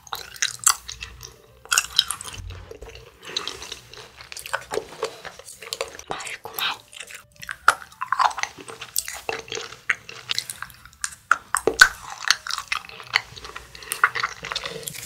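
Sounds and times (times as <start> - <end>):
person chewing chocolate: 0.0 - 15.0.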